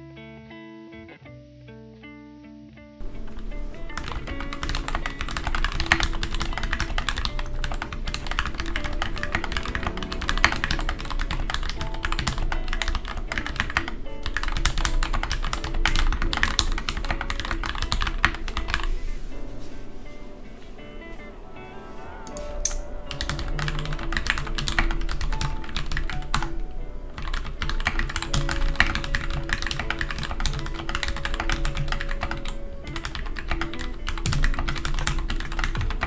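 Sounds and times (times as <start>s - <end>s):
background music: 0.0s - 36.0s
fast typing on mechanical keyboard: 3.0s - 19.1s, 22.3s - 36.0s.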